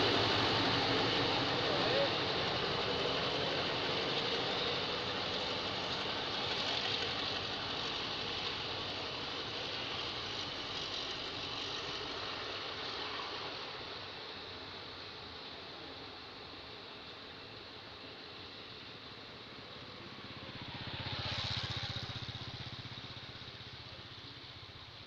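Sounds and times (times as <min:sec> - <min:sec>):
diesel locomotive engine: 0:00.0 - 0:25.0.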